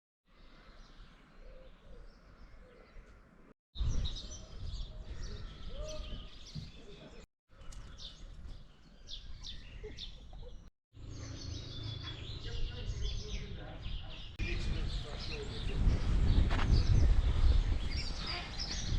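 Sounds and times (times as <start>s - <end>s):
small birds chirping: 0.3s - 18.9s.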